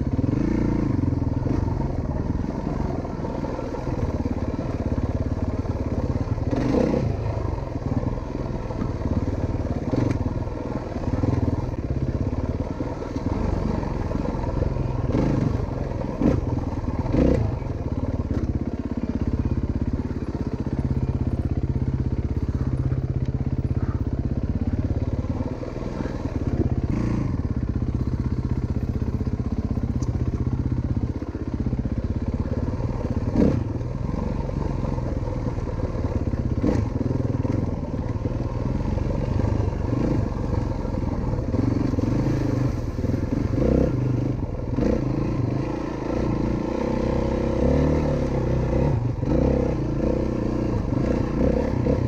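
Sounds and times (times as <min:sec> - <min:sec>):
dirt bike engine running: 0:00.0 - 0:52.0.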